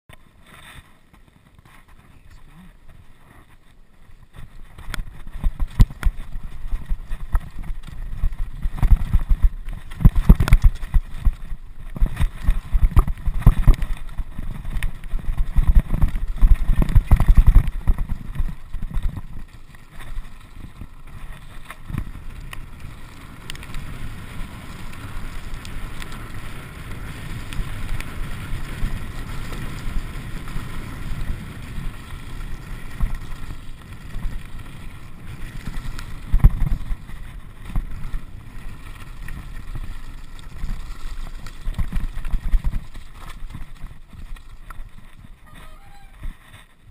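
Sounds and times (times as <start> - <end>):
mountain bike rattling over rocks: 0.1 - 46.9
tyres rumbling on gravel: 0.1 - 46.9
wind on microphone: 1.8 - 46.9.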